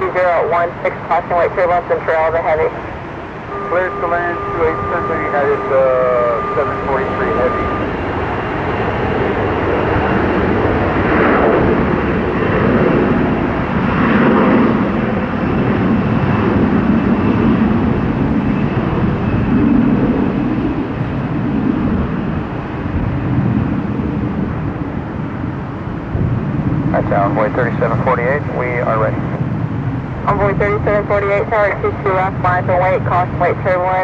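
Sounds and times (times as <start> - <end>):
jet engine rush with high whine: 0.0 - 34.0
wind buffeting microphone: 1.1 - 34.0.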